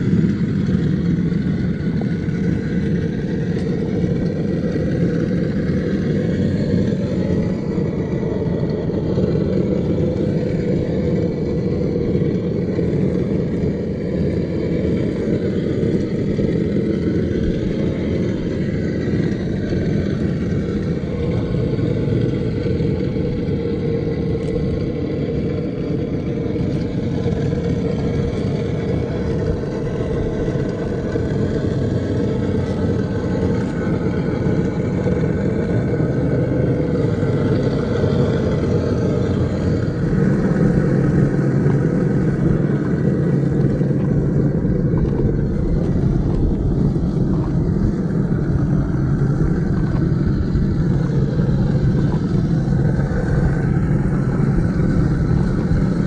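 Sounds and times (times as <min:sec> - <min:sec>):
rc car motor droning: 0:00.0 - 0:56.0.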